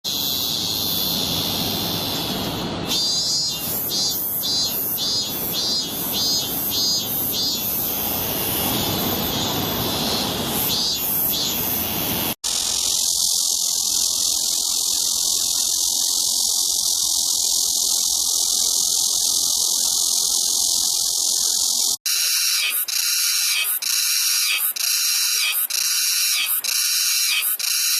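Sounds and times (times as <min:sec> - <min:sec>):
cicada high-pitched buzz: 0:00.0 - 0:27.9
cicada pulsing call: 0:00.1 - 0:27.9.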